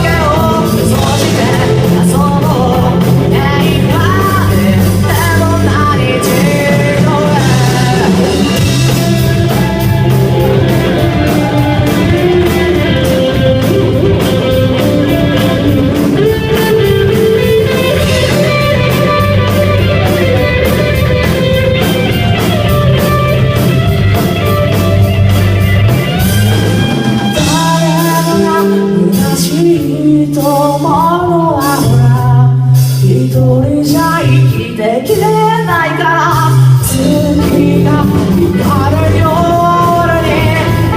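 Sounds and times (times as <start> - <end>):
rock song with singing: 0.0 - 40.9.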